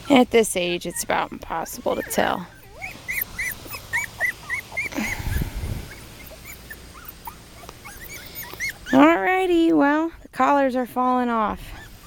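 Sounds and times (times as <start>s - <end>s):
puppies squeaking and whimpering: 0.0s - 10.5s, 11.5s - 12.0s.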